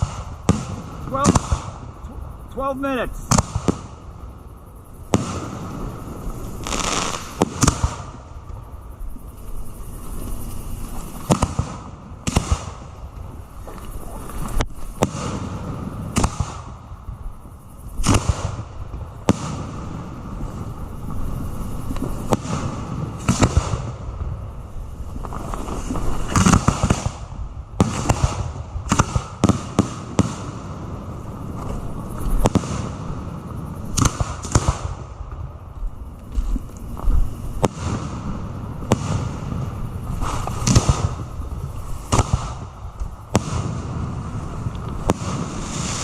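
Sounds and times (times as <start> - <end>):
constant rumble: 0.0 - 46.0
fireworks launching and bursting: 0.0 - 46.0.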